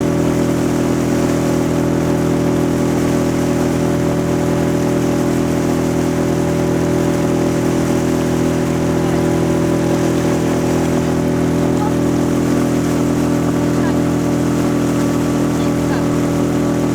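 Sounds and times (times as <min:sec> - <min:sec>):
motor humming steadily: 0:00.0 - 0:16.9.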